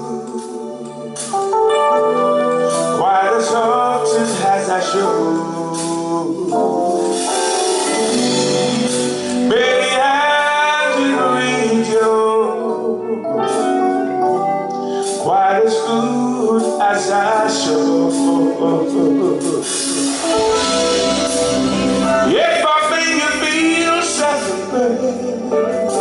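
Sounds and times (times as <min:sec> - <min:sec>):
person singing: 0:00.0 - 0:01.5, 0:02.6 - 0:26.0
slow ballad on keyboards: 0:00.0 - 0:26.0.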